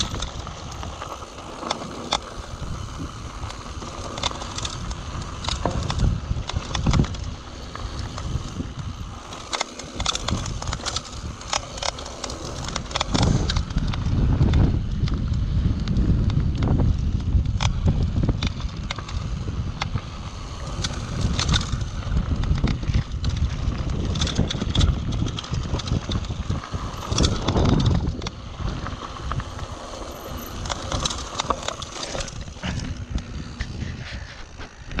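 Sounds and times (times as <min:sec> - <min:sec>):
tyres crunching over gravel: 0:00.0 - 0:13.8, 0:18.7 - 0:35.0
bike rattling and clicking: 0:00.0 - 0:35.0
wind buffeting microphone: 0:00.0 - 0:35.0.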